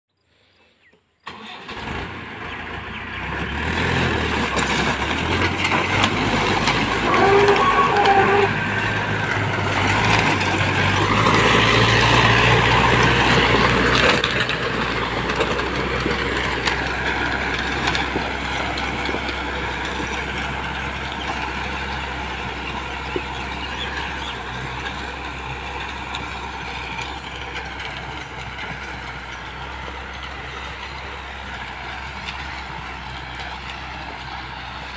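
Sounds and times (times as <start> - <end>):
tractor engine under load: 1.2 - 34.9.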